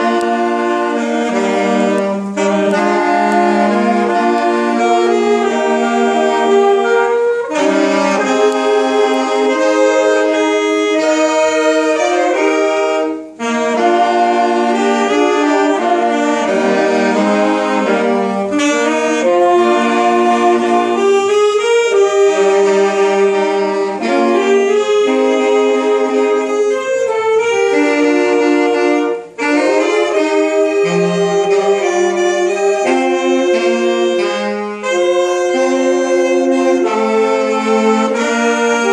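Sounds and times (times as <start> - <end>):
saxophone ensemble playing: 0.0 - 38.9.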